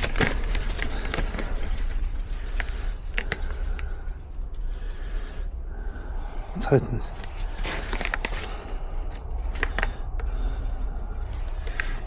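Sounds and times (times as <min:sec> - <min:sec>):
rustling: 0:00.0 - 0:05.5, 0:07.0 - 0:12.0
low rumble: 0:00.0 - 0:12.0.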